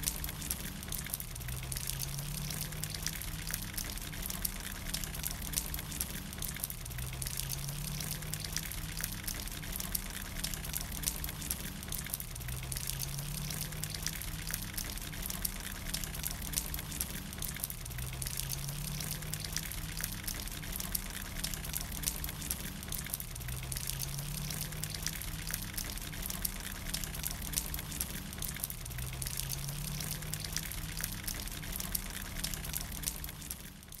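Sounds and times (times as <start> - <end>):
rain pattering and dripping: 0.0 - 34.0.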